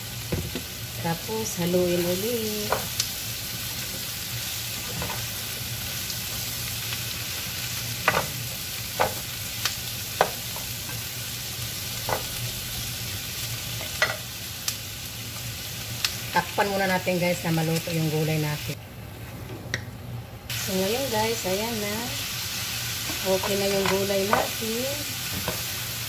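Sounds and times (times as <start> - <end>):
vegetables sizzling in a frying pan: 0.0 - 18.8, 20.5 - 26.0.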